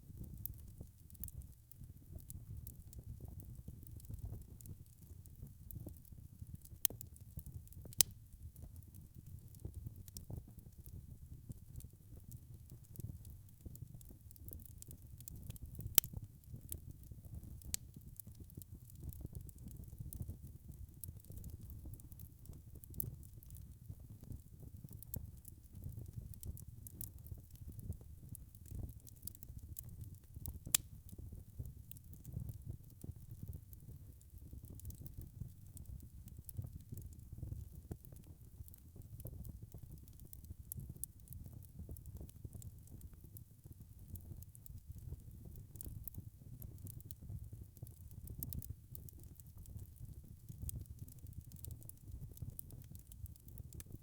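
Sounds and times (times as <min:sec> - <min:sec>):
log fire crackling: 0:00.0 - 0:54.0.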